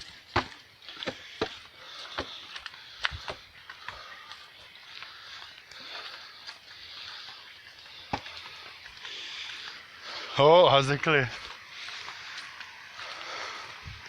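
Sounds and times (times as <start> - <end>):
footsteps on a trail: 0.0 - 14.0
steady high-pitched hiss: 0.0 - 14.0.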